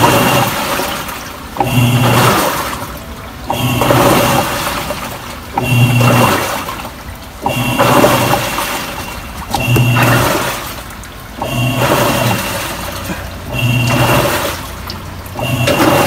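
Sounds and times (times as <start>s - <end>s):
washing machine motor hum: 0.0s - 16.0s
water churning: 0.0s - 16.0s.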